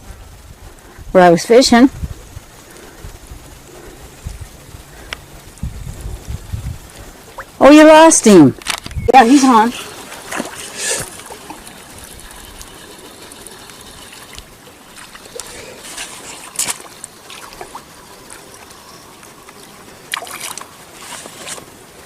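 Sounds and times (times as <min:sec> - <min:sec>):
water trickling and lapping: 0:00.0 - 0:22.0.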